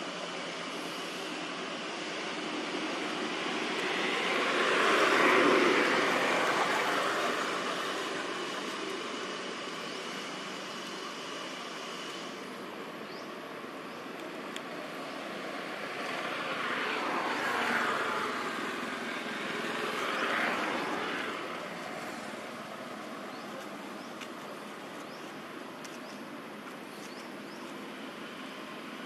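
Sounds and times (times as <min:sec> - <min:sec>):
background traffic hum: 0:00.0 - 0:29.0
vehicles passing: 0:00.0 - 0:29.0.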